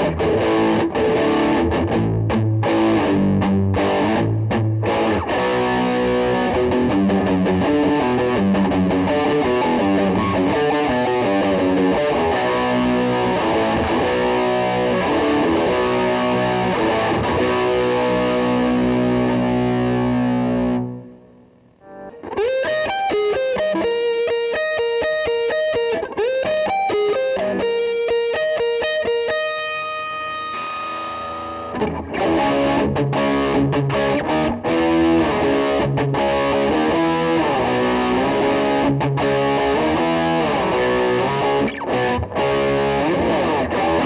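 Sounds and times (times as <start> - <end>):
distorted electric guitar: 0.0 - 44.0.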